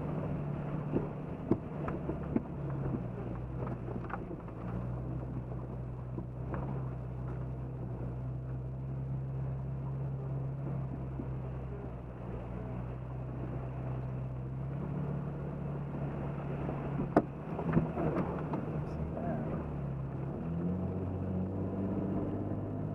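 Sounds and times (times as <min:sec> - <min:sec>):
car engine running at low revs: 0:00.0 - 0:22.9.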